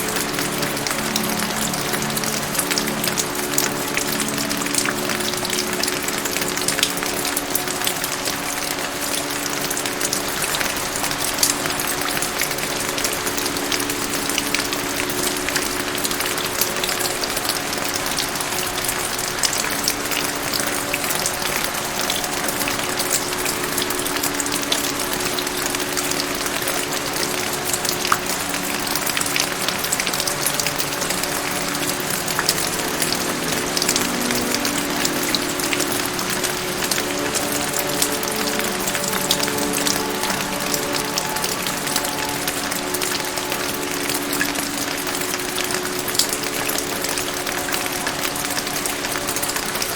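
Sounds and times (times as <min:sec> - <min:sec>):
soft low background music: 0:00.0 - 0:49.9
steady rain patter: 0:00.0 - 0:49.9.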